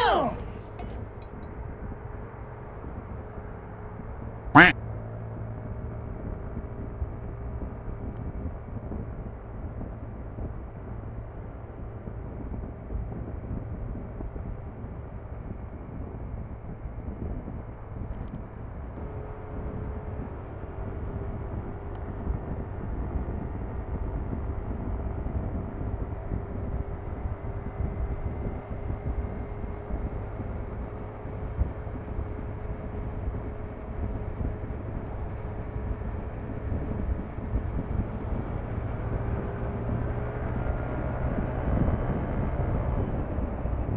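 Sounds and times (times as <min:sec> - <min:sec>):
road noise: 0:00.0 - 0:43.9.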